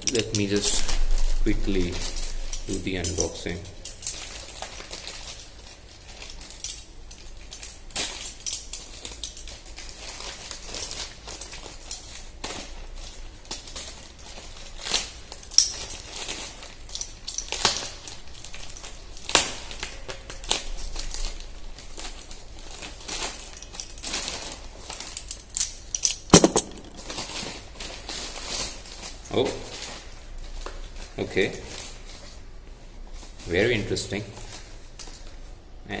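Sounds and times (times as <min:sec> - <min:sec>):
packaging crinkling: 0:00.0 - 0:32.4.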